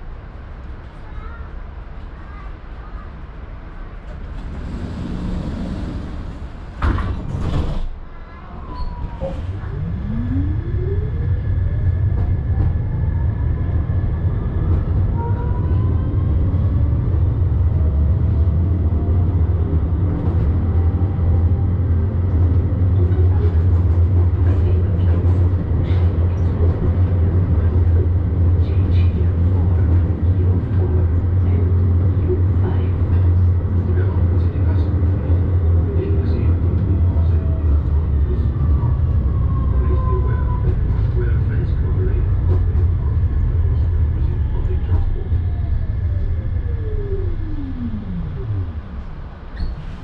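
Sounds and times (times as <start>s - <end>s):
tram clatter: 0.0s - 50.0s
low running rumble: 9.1s - 50.0s.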